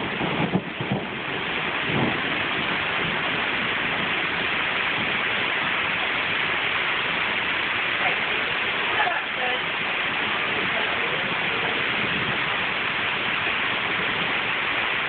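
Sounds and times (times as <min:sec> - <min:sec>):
heavy rain pouring: 0:00.0 - 0:15.0
low rumble of thunder: 0:00.0 - 0:15.0.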